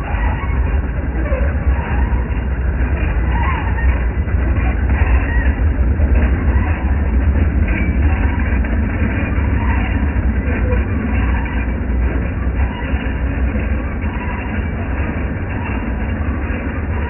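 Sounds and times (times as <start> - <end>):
model train rumbling on track: 0.0 - 17.0.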